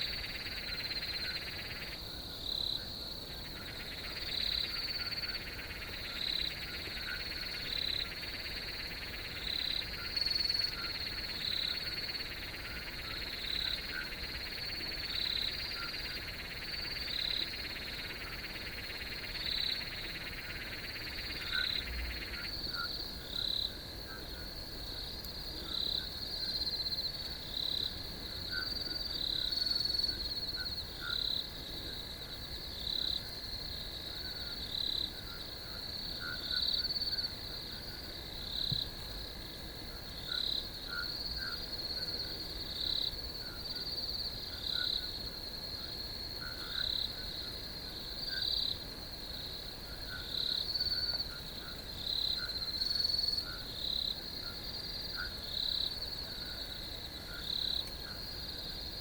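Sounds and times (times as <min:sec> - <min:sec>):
crickets chirping: 0:00.0 - 0:59.0
lower trilling insect chorus: 0:00.0 - 0:59.0.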